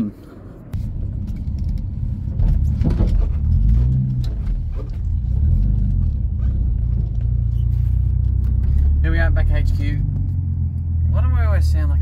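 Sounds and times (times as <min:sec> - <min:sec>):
car engine: 0:00.0 - 0:12.0
road rumble: 0:00.0 - 0:12.0.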